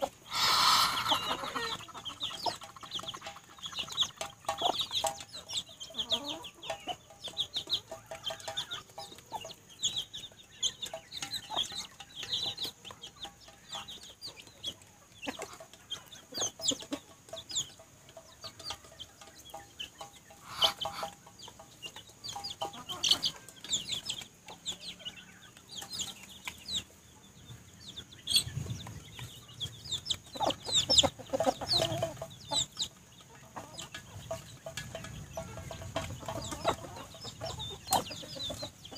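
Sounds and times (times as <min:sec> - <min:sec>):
beaks pecking steel bowl: 0:00.0 - 0:27.1, 0:27.7 - 0:38.9
chicks peeping: 0:00.0 - 0:38.9
hens clucking: 0:00.0 - 0:38.9.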